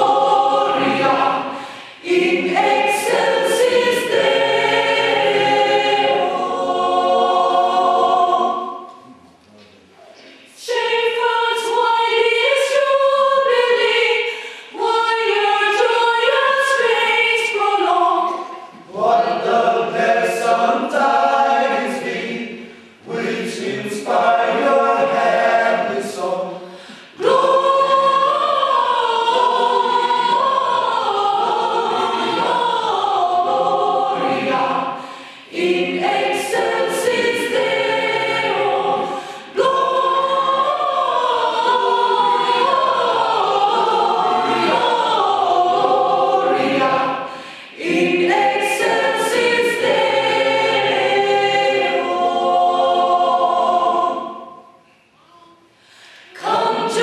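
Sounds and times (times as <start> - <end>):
choir singing: 0.0 - 9.2, 10.5 - 55.2, 56.2 - 57.0.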